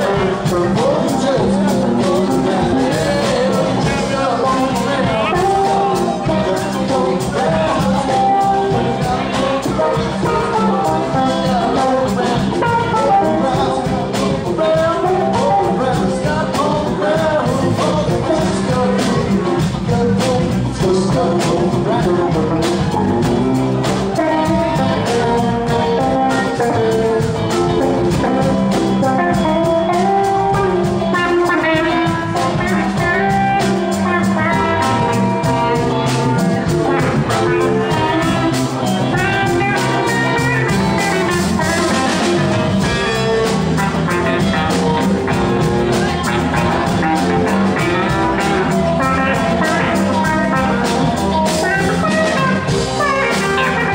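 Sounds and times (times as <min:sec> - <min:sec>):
live band playing: 0:00.0 - 0:53.9.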